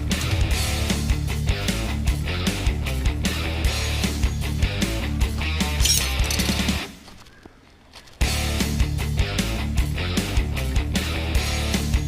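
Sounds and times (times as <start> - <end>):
rock music with guitar and drums: 0.0 - 7.0, 8.2 - 12.0.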